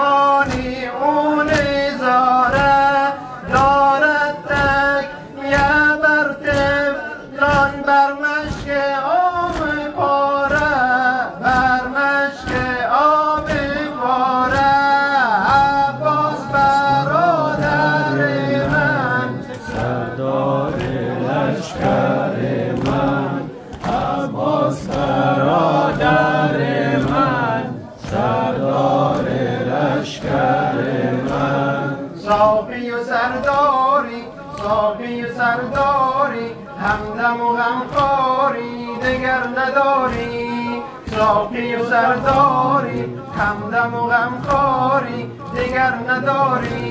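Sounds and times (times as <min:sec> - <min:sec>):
men chanting in unison: 0:00.0 - 0:46.9.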